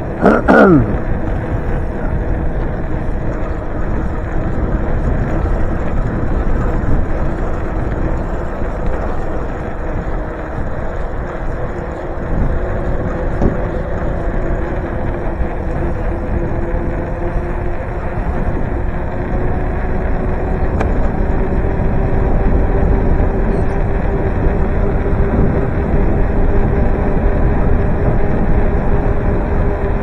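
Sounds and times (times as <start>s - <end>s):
wind and road noise: 0.0s - 30.0s.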